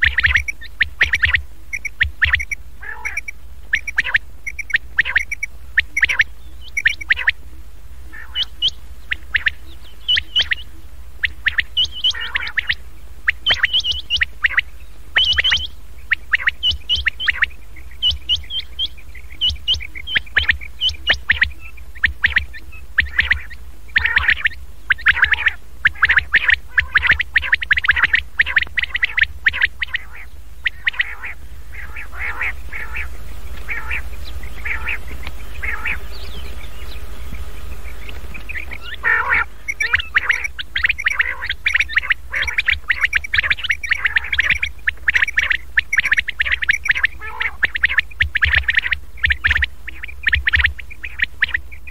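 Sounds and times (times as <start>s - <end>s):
quail lure call: 0.0s - 7.4s, 8.1s - 51.9s
steady low hum: 0.0s - 51.9s.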